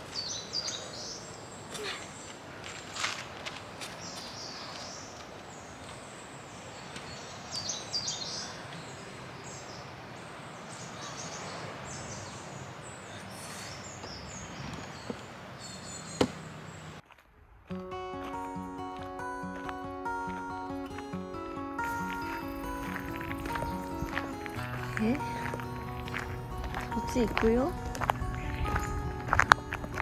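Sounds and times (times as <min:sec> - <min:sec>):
birds chirping: 0:00.0 - 0:17.0, 0:18.4 - 0:30.0.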